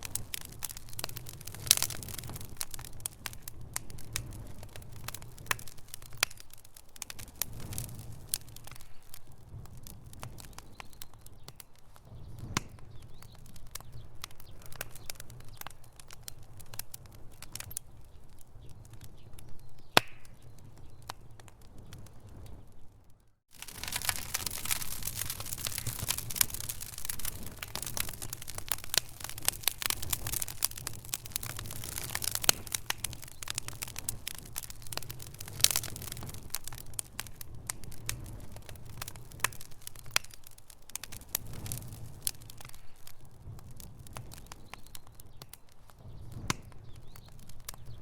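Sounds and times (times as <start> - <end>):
fire pops and snaps: 0.0 - 48.0
wood fire crackling: 0.0 - 48.0.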